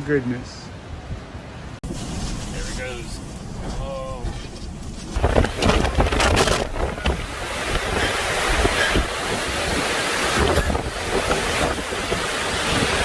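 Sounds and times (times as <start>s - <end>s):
wind buffeting microphone: 1.0s - 13.0s
surf breaking: 1.8s - 13.0s.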